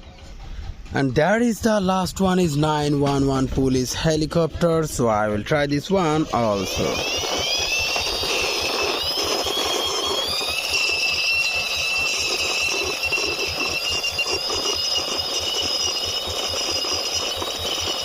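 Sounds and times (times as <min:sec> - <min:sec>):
fast ticking pulse: 0:00.0 - 0:18.0
toy helicopter electronic whine: 0:00.0 - 0:18.0.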